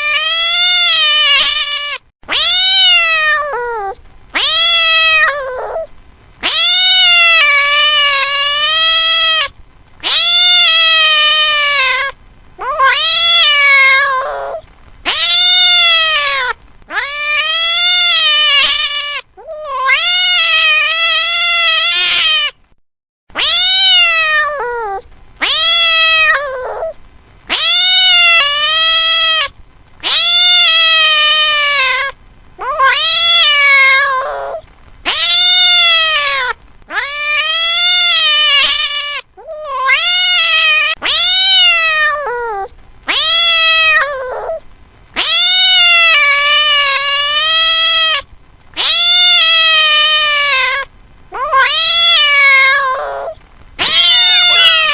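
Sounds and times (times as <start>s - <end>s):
cat meowing: 0.0s - 22.6s, 23.4s - 44.6s, 45.2s - 54.9s.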